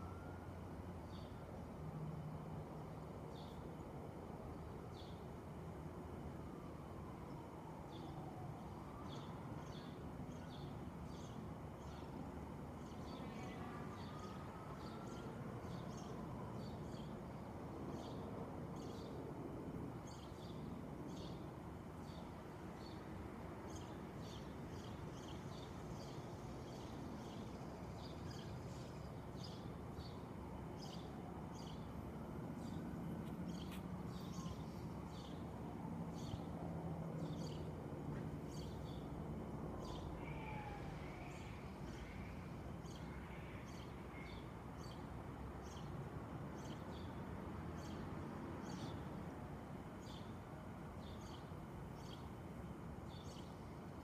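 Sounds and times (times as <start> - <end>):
low city background hum: 0.0 - 54.0.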